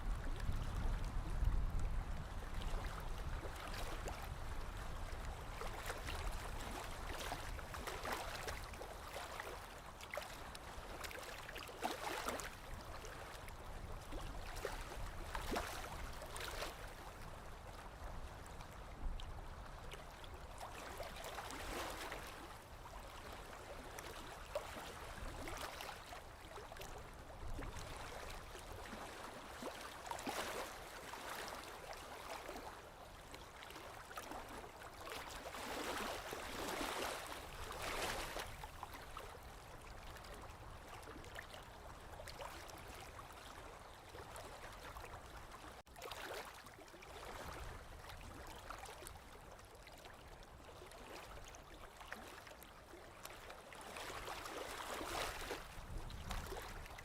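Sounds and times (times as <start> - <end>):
lake waves lapping on shore: 0.0 - 57.0.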